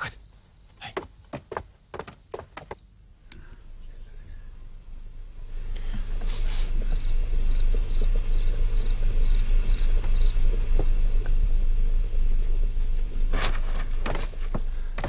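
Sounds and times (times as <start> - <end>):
crickets chirping: 0.0 - 15.0
steady low hum: 0.0 - 15.0.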